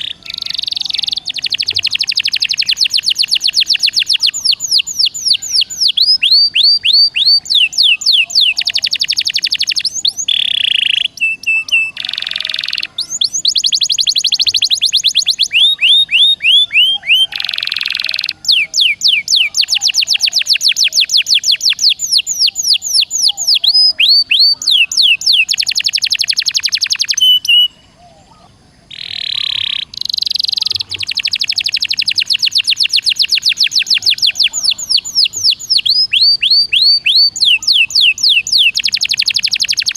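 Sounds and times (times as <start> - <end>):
songbird whistled song: 0.0 - 39.9.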